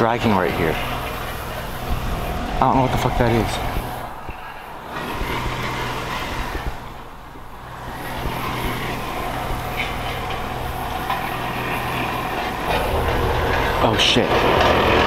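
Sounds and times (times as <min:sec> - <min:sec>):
metal scraping on gravel: 0:00.0 - 0:15.0
tractor engine hum: 0:00.0 - 0:15.0.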